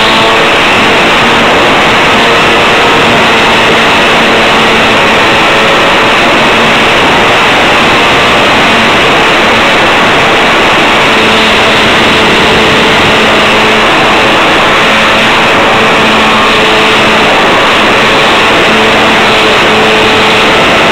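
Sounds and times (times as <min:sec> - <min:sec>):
model plane motor and propeller: 0:00.0 - 0:20.9
wind rush over microphone: 0:00.0 - 0:20.9.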